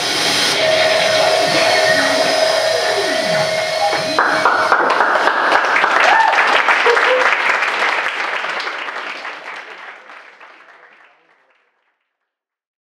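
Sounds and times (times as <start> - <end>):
audience applauding: 0.4 - 11.9.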